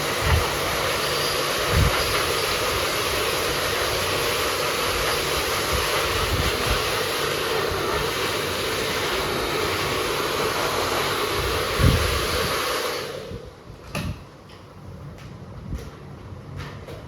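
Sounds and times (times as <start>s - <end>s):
hot-air blow dryer running: 0.0s - 13.7s.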